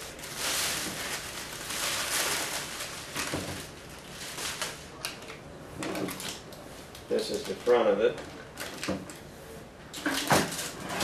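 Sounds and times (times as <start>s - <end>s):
packing material rustling: 0.0s - 9.2s.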